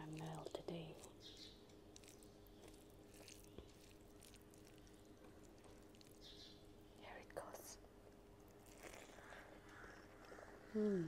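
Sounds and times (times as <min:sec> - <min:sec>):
fingers squishing rice: 0:00.0 - 0:07.4, 0:08.3 - 0:10.6
low steady hum: 0:00.0 - 0:11.0.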